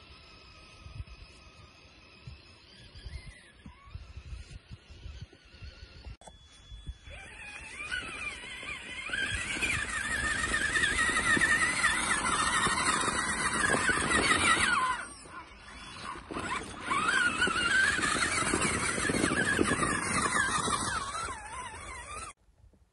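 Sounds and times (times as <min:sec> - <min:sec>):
toy truck electric motor whining: 0:00.0 - 0:22.4.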